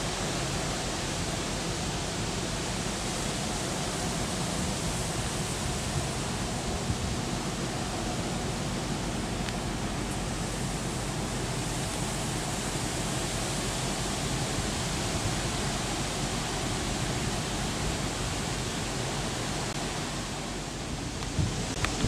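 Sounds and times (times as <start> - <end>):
ship rushing noise: 0.0 - 22.0.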